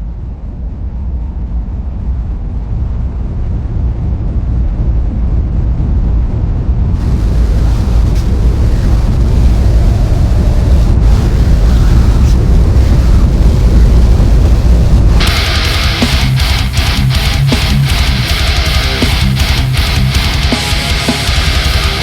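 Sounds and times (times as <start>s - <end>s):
low rumbling noise with hiss: 0.0s - 22.0s.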